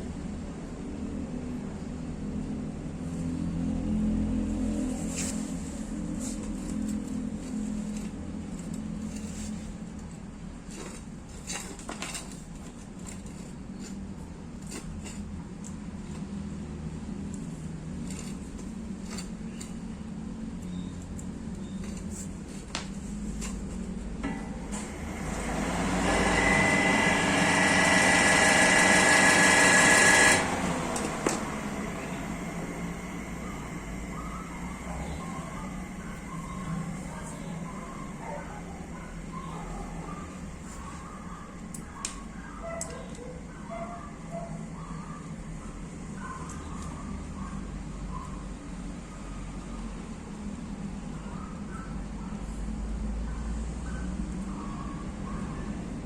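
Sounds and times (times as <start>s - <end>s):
exhaust fan humming: 0.0s - 51.8s.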